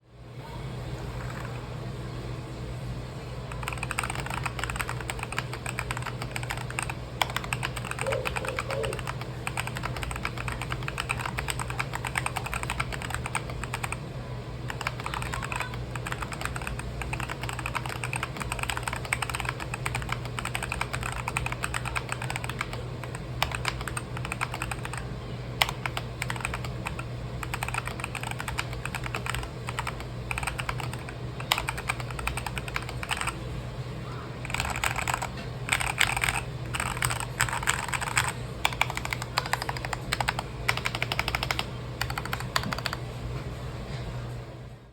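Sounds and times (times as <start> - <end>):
steady low hum: 0.0 - 44.9
typing on mechanical keyboard: 3.5 - 14.0, 14.7 - 25.0, 25.6 - 33.4, 34.4 - 43.0.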